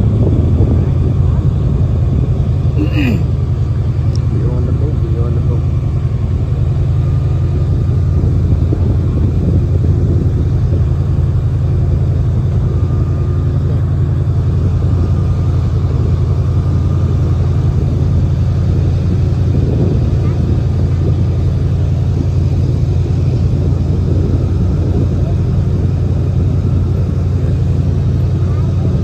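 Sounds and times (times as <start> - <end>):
airboat engine and propeller rumble: 0.0 - 29.0.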